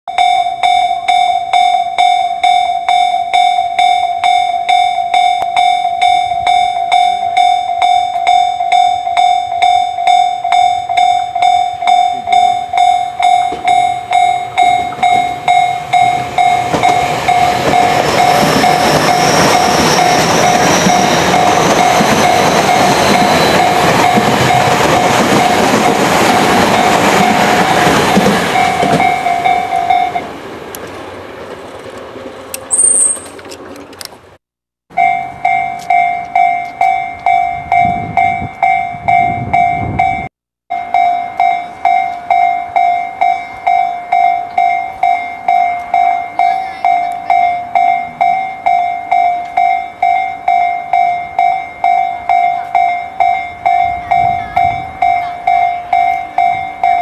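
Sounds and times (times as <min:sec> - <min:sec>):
level crossing warning bell: 0:00.1 - 0:30.4, 0:32.6 - 0:33.3, 0:34.9 - 0:57.0
electric train passing: 0:00.1 - 0:57.0.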